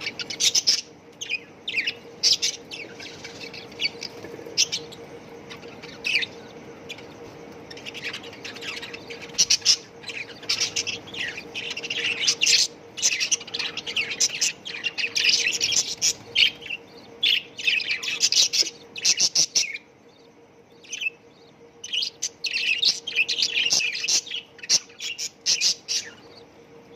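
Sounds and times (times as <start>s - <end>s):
budgerigars chattering and chirping: 0.0s - 26.5s.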